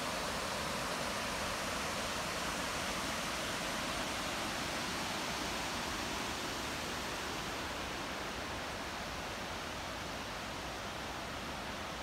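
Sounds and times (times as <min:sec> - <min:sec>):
river rushing over waterfall: 0:00.0 - 0:12.0.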